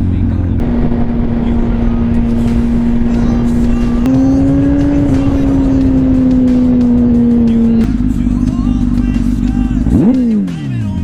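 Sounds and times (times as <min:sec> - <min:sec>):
motor vehicle running: 0:00.0 - 0:11.0
music: 0:00.0 - 0:11.0.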